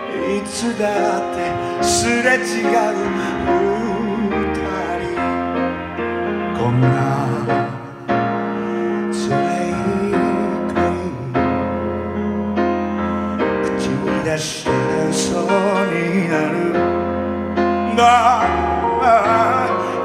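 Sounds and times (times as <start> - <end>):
man singing with vibrato: 0.0 - 5.8, 6.4 - 11.8, 13.4 - 20.0
piano and keyboard accompaniment: 0.0 - 20.0.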